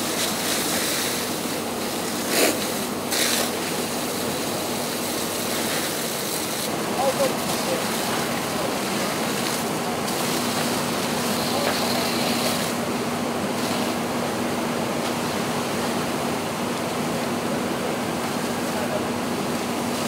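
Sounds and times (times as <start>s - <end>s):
fire hose water hissing: 0.0s - 20.0s.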